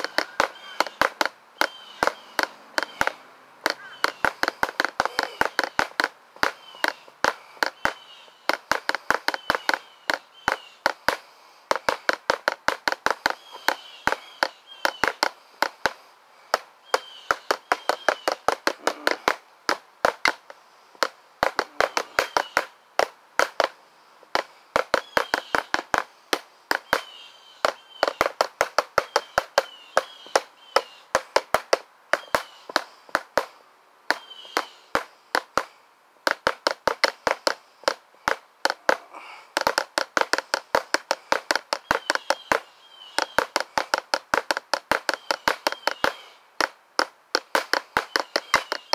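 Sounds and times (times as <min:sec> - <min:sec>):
drumsticks striking drum rapidly: 0:00.0 - 0:13.4, 0:14.1 - 0:16.6, 0:17.3 - 0:29.7, 0:36.3 - 0:42.6, 0:43.2 - 0:48.9.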